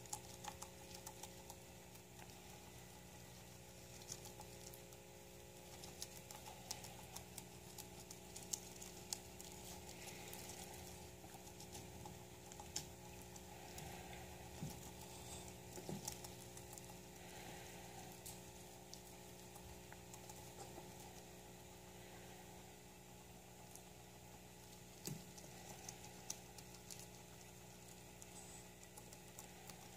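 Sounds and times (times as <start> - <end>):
guinea pig munching greens: 0.0 - 29.9
steady low hum: 0.0 - 29.9.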